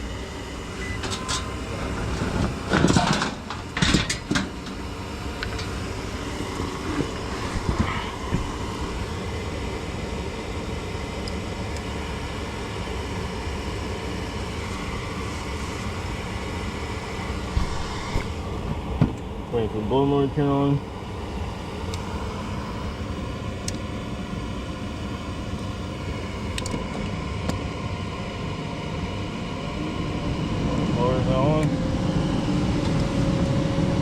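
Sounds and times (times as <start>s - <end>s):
gas furnace burners whirring: 0.0s - 34.0s.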